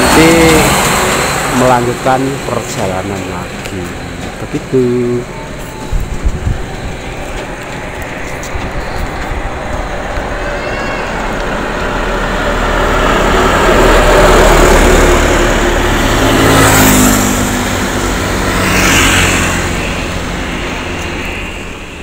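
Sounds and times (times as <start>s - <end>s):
motorcycle passing: 0.0s - 22.0s
vehicle passing loudly: 0.0s - 22.0s.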